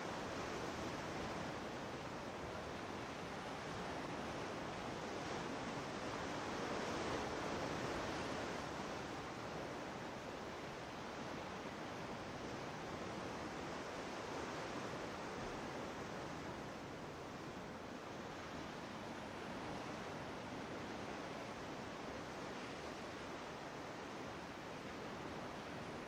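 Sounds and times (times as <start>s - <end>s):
ocean surf washing ashore: 0.0s - 26.0s.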